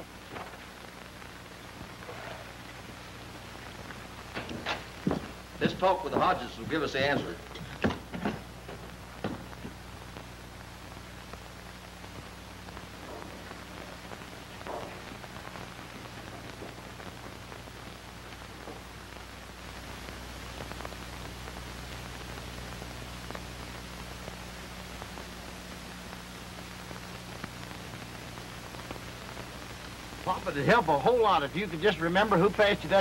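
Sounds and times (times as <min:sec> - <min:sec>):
film soundtrack hiss and hum: 0:00.0 - 0:33.0.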